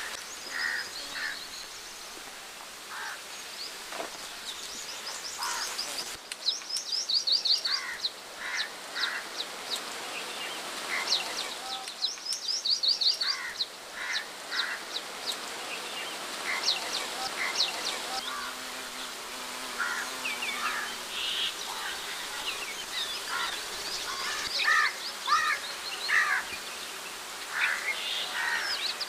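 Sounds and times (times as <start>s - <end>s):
birds chirping: 0.0s - 29.0s
faint outdoor hiss: 0.0s - 29.0s.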